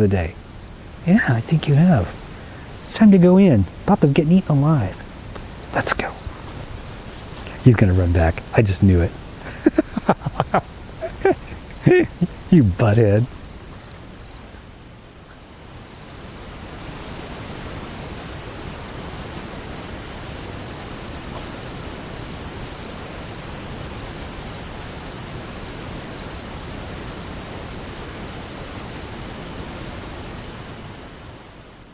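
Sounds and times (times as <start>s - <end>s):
background rush of noise: 0.0s - 31.6s
crickets chirping: 0.0s - 31.9s.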